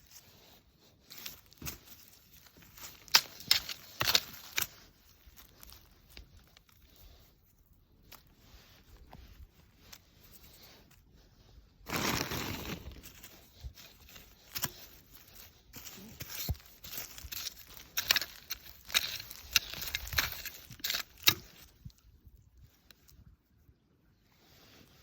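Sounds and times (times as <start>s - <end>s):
chives rustling and snapping: 0.0s - 11.1s, 11.9s - 23.2s.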